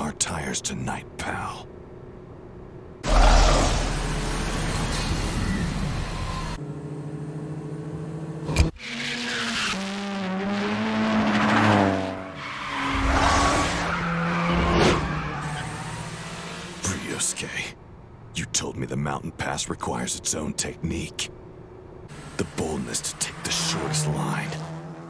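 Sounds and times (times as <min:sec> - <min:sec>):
race car engines revving: 0:01.7 - 0:18.5, 0:20.7 - 0:25.0.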